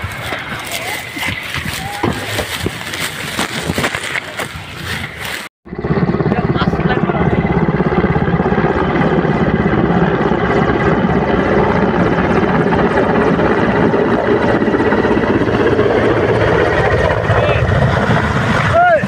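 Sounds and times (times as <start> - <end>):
helicopter rotor chopping: 0.0 - 19.0
turbine engines: 0.0 - 19.0.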